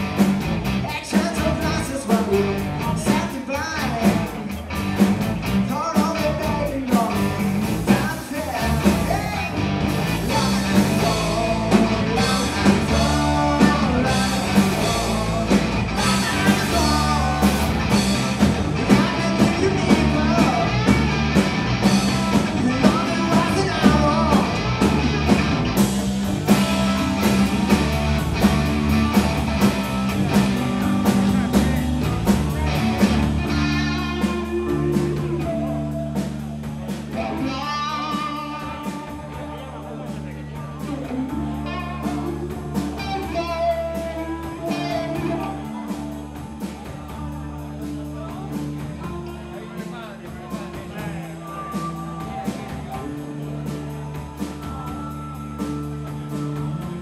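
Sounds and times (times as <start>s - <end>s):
bass guitar: 0.0s - 57.0s
drum kit beat: 0.0s - 57.0s
electric guitar: 0.0s - 57.0s
person singing: 0.8s - 4.4s, 5.6s - 25.6s, 30.1s - 57.0s.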